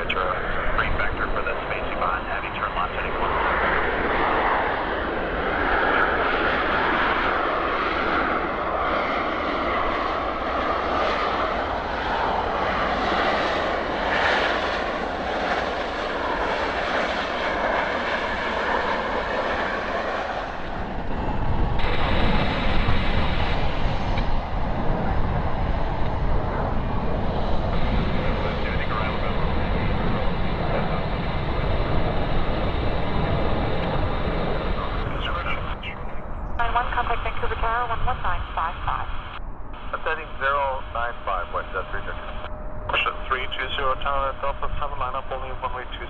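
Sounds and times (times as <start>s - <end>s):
jet engines whining: 0.0s - 46.0s.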